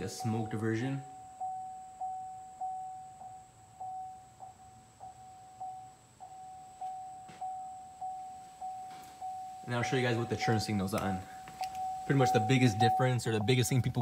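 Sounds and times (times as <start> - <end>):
car warning chime dinging: 0.0 - 14.0.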